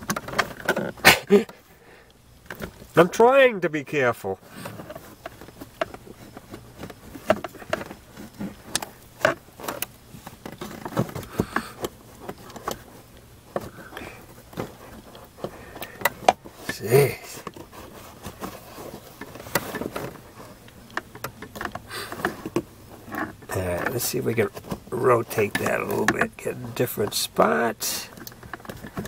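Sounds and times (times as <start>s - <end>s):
metal scraping and clicking on plastic: 0.0s - 1.7s, 4.4s - 29.0s.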